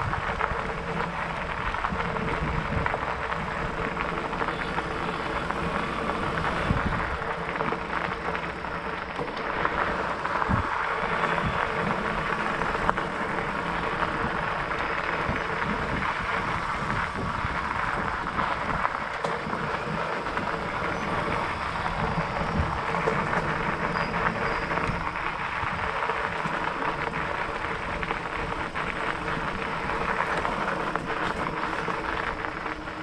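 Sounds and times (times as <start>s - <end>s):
bike rattles and ticks: 0.0s - 33.0s
bike tyres on dirt trail: 0.0s - 33.0s
low wind rumble: 0.0s - 33.0s.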